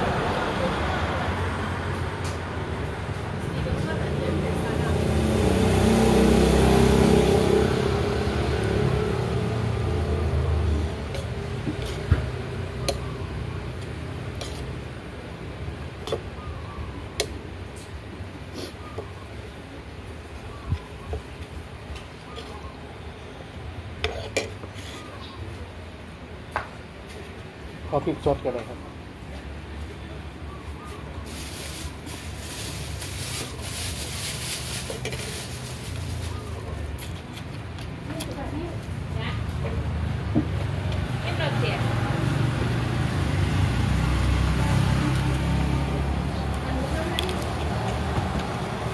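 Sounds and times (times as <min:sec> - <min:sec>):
traffic rumble: 0:00.0 - 0:48.9.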